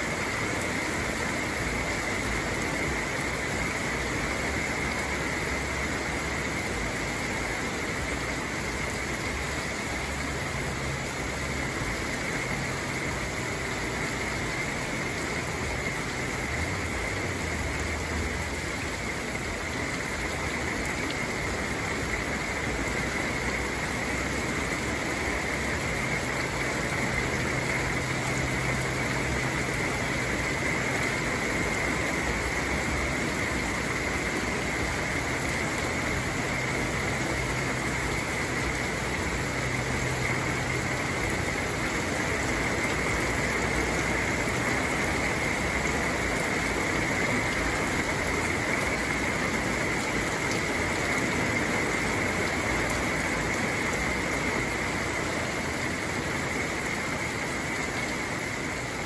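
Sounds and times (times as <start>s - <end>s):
heavy rain on leafy trees: 0.0s - 59.0s.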